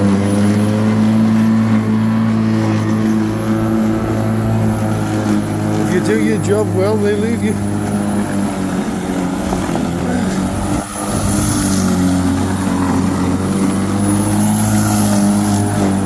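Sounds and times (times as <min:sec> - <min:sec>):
lawnmower cutting grass: 0:00.0 - 0:16.0.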